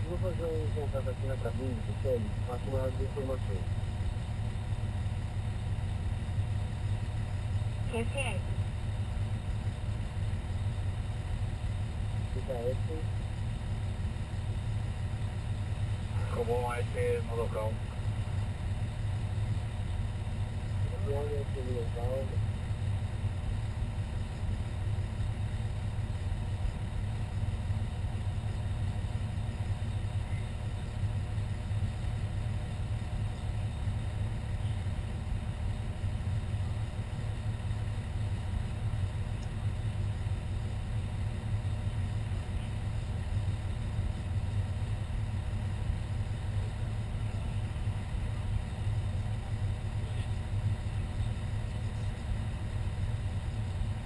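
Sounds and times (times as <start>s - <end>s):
fire engine idling: 0.0s - 54.0s.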